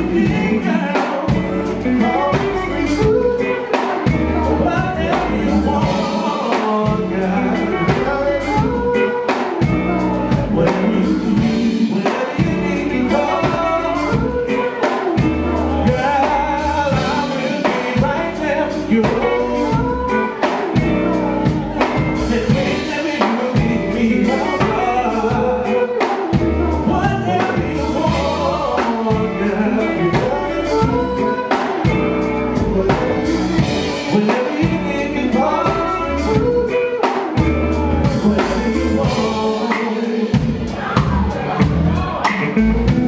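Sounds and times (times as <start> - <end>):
drum kit steady beat: 0.0 - 43.0
electric guitar: 0.0 - 43.0
man singing into a microphone: 0.0 - 43.0.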